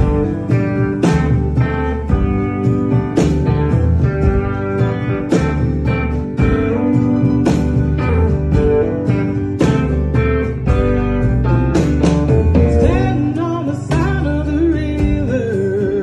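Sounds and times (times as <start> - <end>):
acoustic guitar strumming: 0.0 - 16.0
band playing: 0.0 - 16.0.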